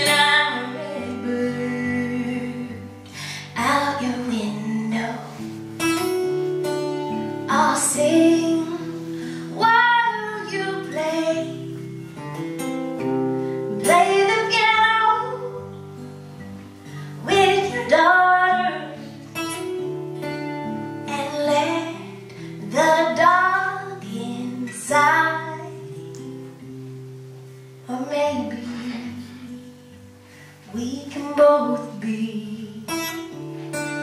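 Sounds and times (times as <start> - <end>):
woman singing: 0.0 - 6.1, 6.9 - 12.0, 13.6 - 15.8, 16.8 - 26.5, 27.9 - 30.0, 30.6 - 34.0
acoustic guitar chords: 0.0 - 34.0.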